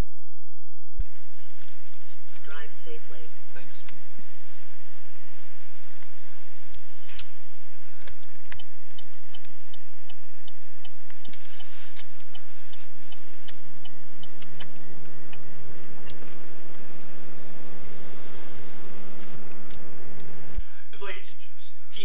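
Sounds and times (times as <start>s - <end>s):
car cabin hum: 1.0s - 20.6s.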